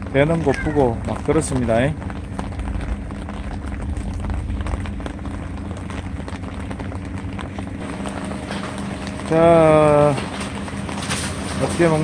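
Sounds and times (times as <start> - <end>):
low steady rumble: 0.0 - 12.0
rain falling: 0.0 - 12.0.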